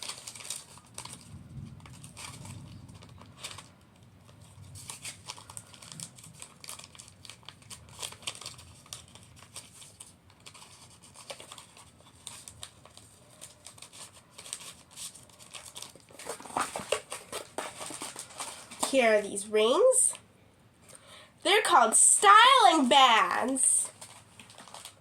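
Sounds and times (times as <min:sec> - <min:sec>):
packaging crinkling and rustling: 0:00.0 - 0:20.1, 0:21.8 - 0:25.0.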